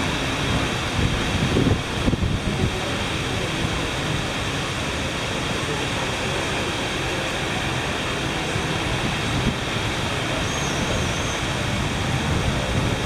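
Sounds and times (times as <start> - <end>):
background rumble and hiss: 0.0 - 13.0.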